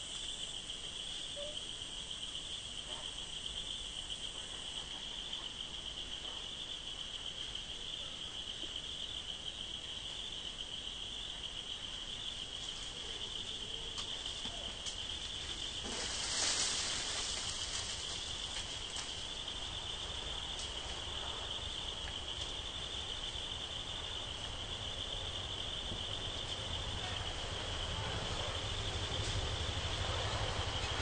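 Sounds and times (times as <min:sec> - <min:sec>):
insect chorus buzzing: 0:00.0 - 0:31.0.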